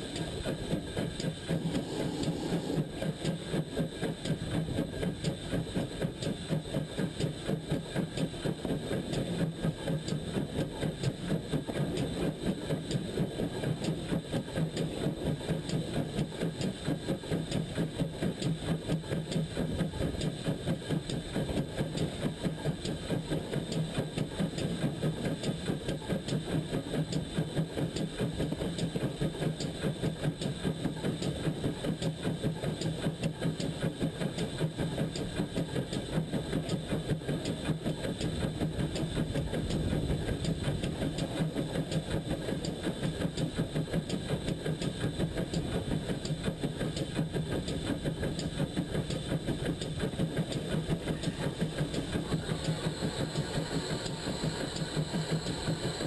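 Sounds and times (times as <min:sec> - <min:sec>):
steam locomotive beats: 0:00.0 - 0:56.0.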